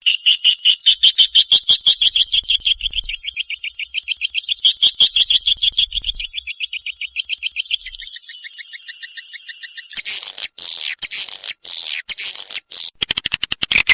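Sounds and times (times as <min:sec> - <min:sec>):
swiftlet chirping twitter: 0:00.0 - 0:13.9.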